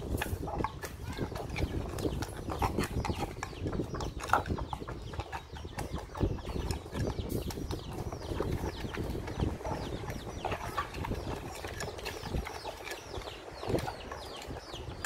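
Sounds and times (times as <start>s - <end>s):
pestle pounding in wooden mortar: 0.0s - 15.0s.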